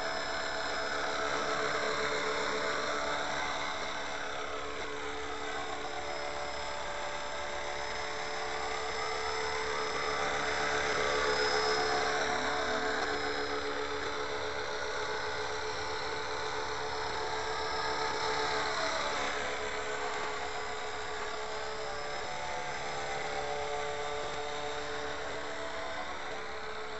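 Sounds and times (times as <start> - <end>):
model helicopter rotor whining: 0.0 - 26.9.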